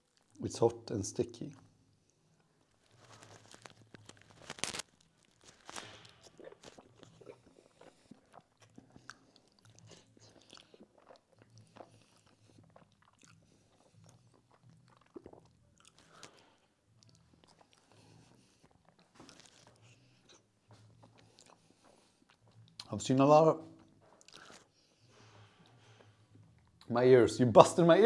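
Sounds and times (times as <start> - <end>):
person chewing and eating: 2.8 - 22.9, 23.8 - 26.9.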